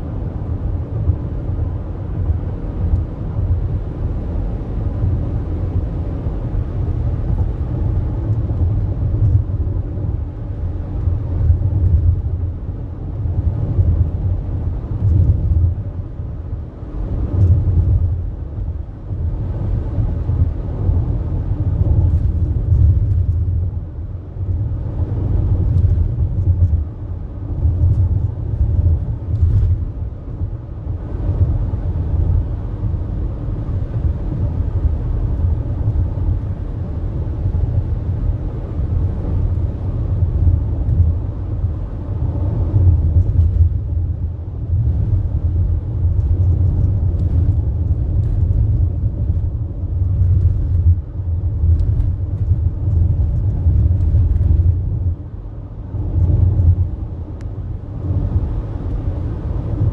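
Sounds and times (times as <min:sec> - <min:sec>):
tyres rumbling on road: 0:00.0 - 0:59.9.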